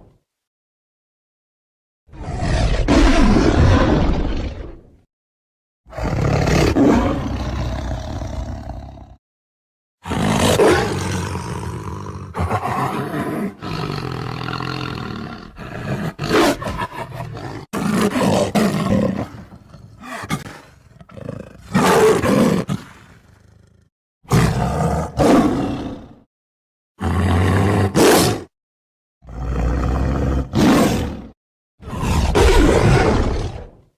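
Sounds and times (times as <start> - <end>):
tiger roaring and growling: 2.1 - 5.0, 5.9 - 9.2, 10.0 - 26.3, 27.0 - 28.5, 29.2 - 33.9.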